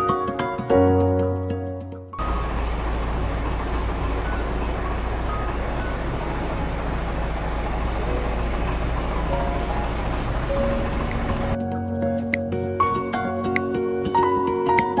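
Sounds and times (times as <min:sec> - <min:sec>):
moving vehicle rumble: 0:02.2 - 0:15.0.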